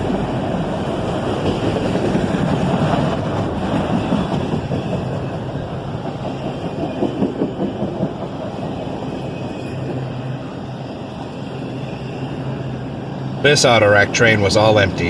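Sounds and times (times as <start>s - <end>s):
freight train rolling past: 0.0s - 15.0s
wheels clacking on rail: 0.0s - 15.0s.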